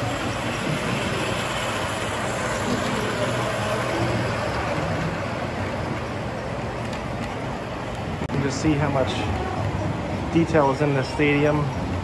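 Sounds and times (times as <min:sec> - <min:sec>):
model train wheels rumbling: 0:00.0 - 0:12.0.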